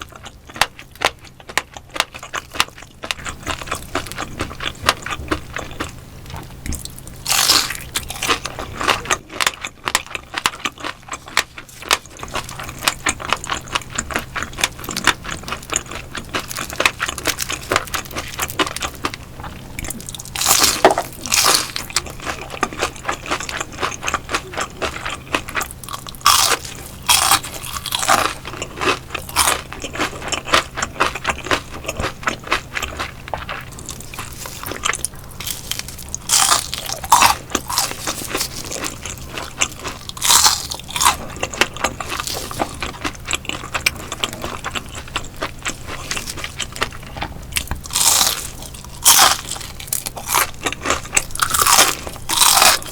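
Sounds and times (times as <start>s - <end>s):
crunchy chewing of fish: 0.0s - 52.9s.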